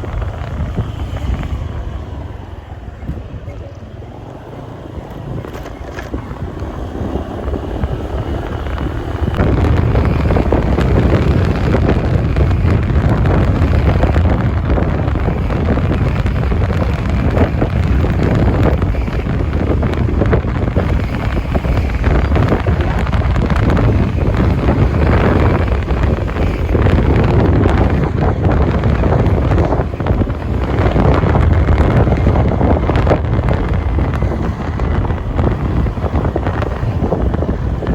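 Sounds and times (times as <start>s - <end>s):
wind rushing over microphone: 0.0s - 37.9s.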